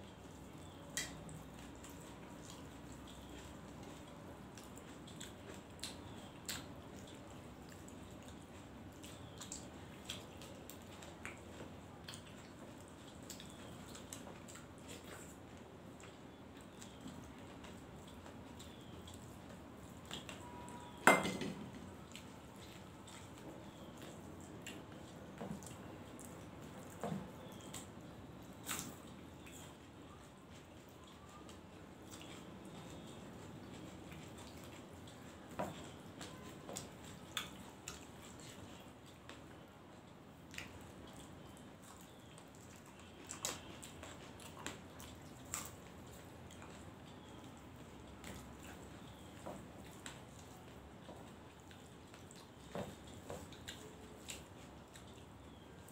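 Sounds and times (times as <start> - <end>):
people chewing: 0.0 - 55.9.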